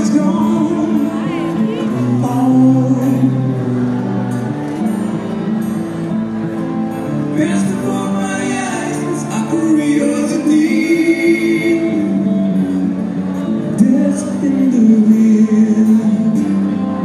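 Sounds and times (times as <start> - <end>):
person singing: 0.0 - 4.5, 7.2 - 17.0
band music: 0.0 - 17.0.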